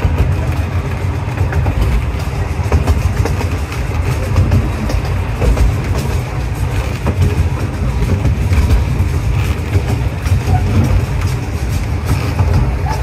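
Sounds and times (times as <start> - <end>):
miniature train rumbling: 0.0 - 13.0
wheel clicks: 0.0 - 13.0.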